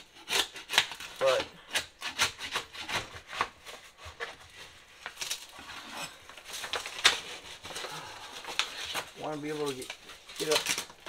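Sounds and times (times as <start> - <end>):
scraper scraping wallpaper: 0.0 - 10.9.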